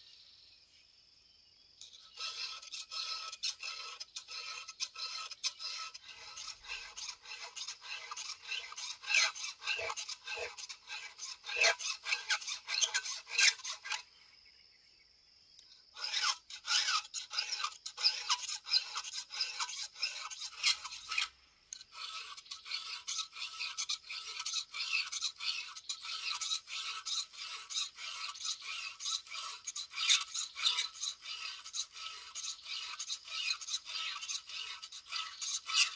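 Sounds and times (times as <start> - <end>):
file rasping on chainsaw chain: 1.8 - 14.1, 15.9 - 35.9.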